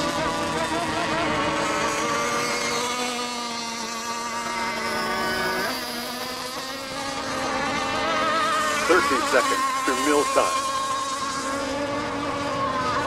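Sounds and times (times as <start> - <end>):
model boat engines whining: 0.0 - 13.0.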